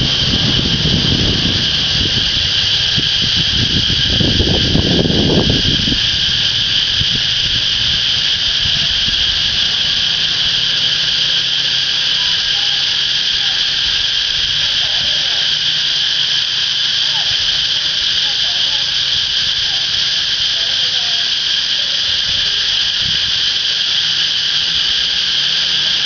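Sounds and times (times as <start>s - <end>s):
cicadas droning: 0.0s - 26.0s
low rumbling noise: 0.0s - 26.0s.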